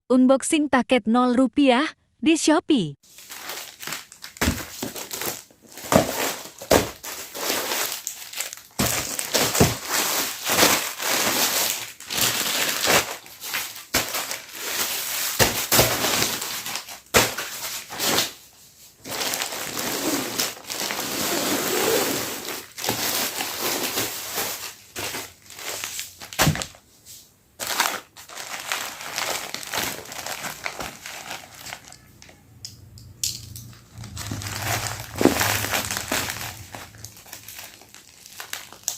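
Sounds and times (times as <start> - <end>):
plastic packaging crinkling: 3.1 - 26.9, 27.6 - 32.4, 33.2 - 38.9.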